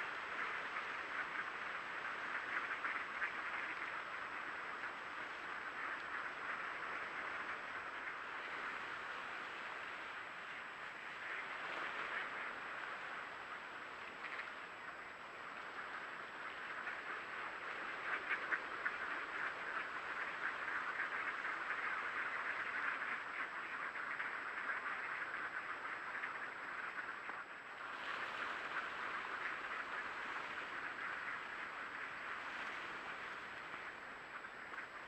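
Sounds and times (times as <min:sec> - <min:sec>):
flock of ducks quacking: 0:00.0 - 0:35.0.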